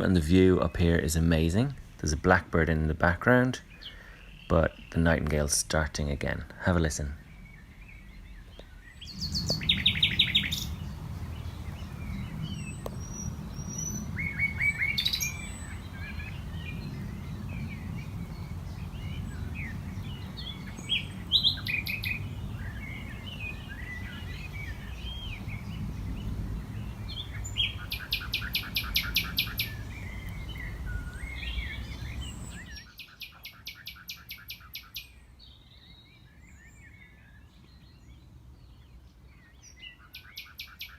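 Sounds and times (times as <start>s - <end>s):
blackbird singing: 0.0s - 40.9s
nightingale singing: 0.0s - 40.9s.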